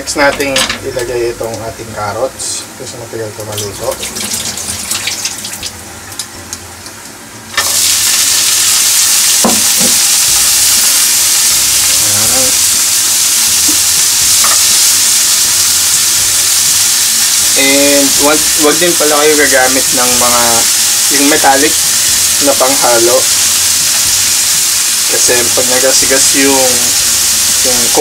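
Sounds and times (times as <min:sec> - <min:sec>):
meat sizzling in a pan: 0:03.5 - 0:05.9, 0:07.5 - 0:28.0.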